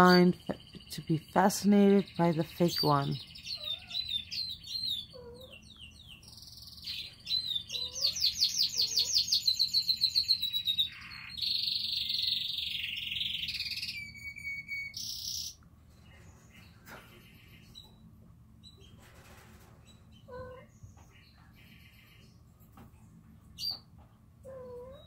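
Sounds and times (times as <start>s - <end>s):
canary song from television speakers: 0.0s - 25.0s.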